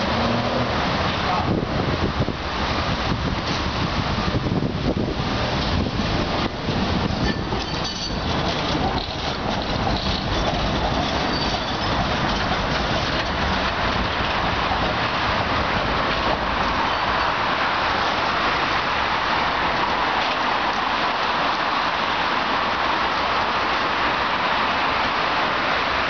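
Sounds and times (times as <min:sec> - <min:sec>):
tram wheels rumbling on rails: 0:00.0 - 0:26.0.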